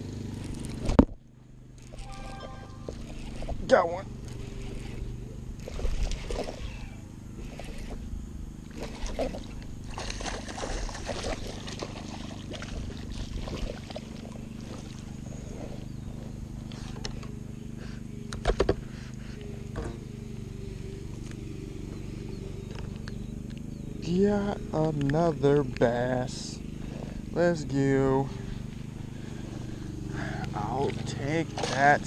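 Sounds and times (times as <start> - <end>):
fishing reel gear purr: 0.0 - 32.0.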